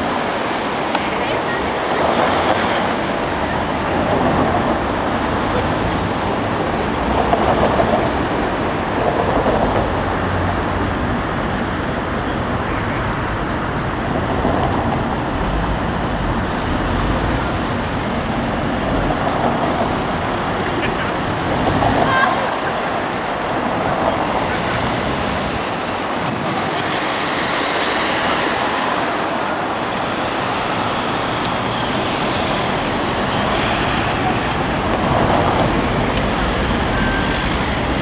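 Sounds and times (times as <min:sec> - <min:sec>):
city street traffic: 0:00.0 - 0:38.0.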